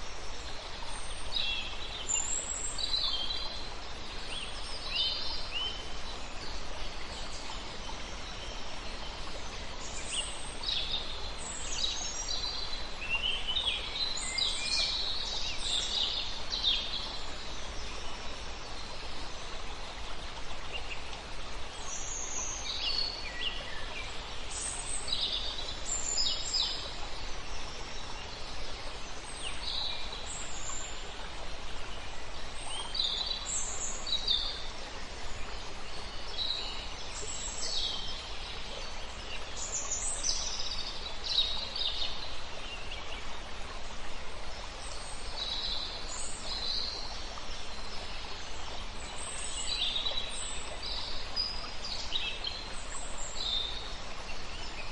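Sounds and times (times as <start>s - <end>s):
river water flowing: 0.0s - 54.9s
songbirds chirping: 0.0s - 54.9s.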